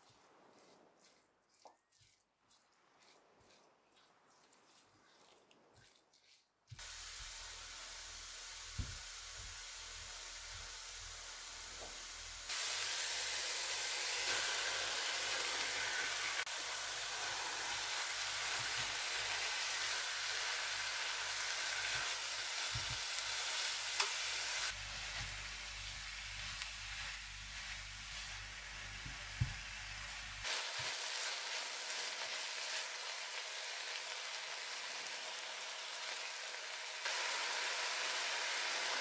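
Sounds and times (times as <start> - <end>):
meat sizzling in oil: 6.7 - 39.0.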